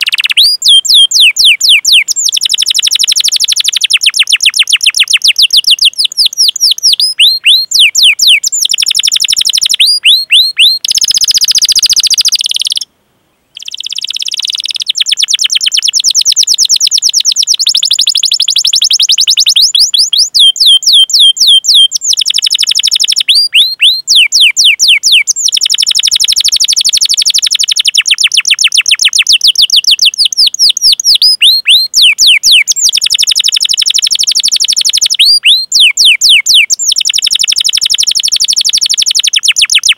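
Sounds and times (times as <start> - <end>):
canary singing chirps: 0.0 - 12.9, 13.5 - 39.9.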